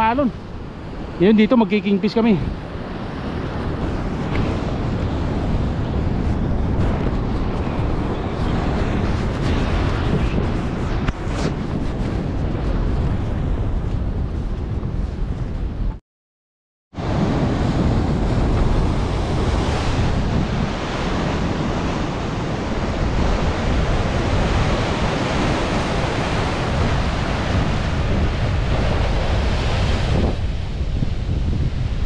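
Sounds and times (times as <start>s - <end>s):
wind buffeting microphone: 0.0s - 16.0s, 17.0s - 32.0s.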